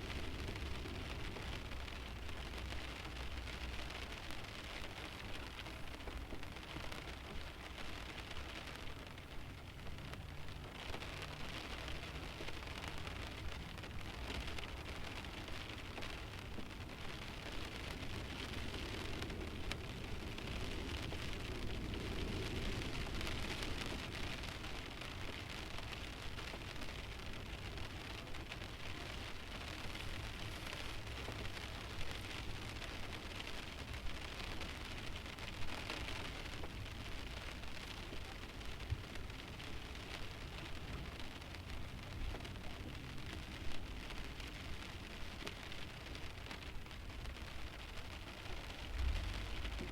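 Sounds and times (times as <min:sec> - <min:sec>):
rain pattering on windshield: 0:00.0 - 0:49.9
raindrops hitting glass: 0:00.0 - 0:49.9.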